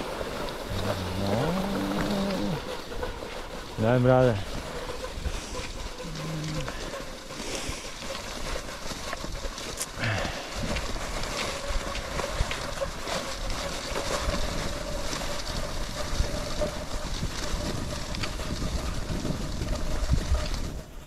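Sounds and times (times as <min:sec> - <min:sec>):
wind on microphone: 0:00.0 - 0:07.7, 0:09.2 - 0:21.0
scattered ticks: 0:00.0 - 0:21.0
skis sliding on snow: 0:00.0 - 0:21.0.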